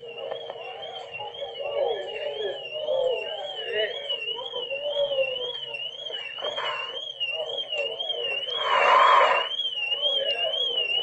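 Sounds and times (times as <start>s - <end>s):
faint voices: 0.0s - 11.0s
warbling electronic alarm: 0.0s - 11.0s.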